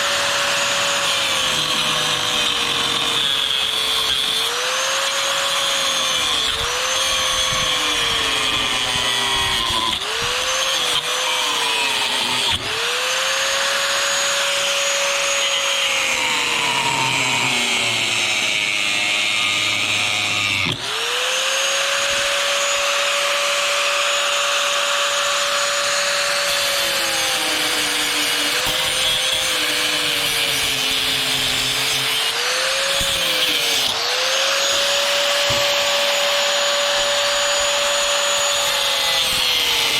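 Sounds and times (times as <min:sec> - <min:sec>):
angle grinder cutting metal: 0:00.0 - 0:39.9.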